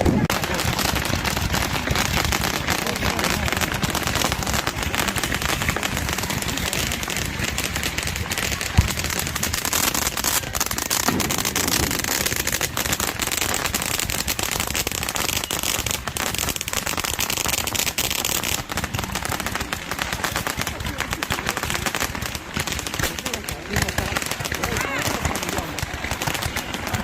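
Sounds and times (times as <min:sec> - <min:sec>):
firecrackers crackling: 0:00.0 - 0:27.0.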